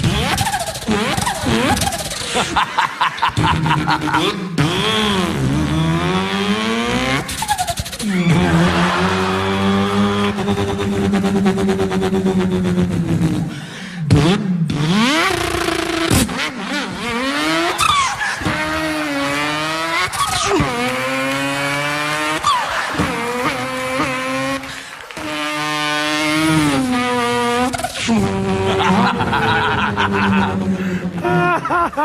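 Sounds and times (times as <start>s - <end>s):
man imitating car engine: 0.0s - 32.0s.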